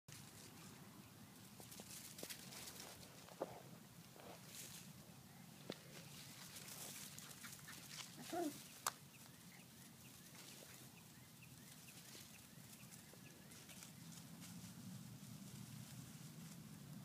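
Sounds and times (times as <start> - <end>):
faint outdoor ambience: 0.1 - 17.0.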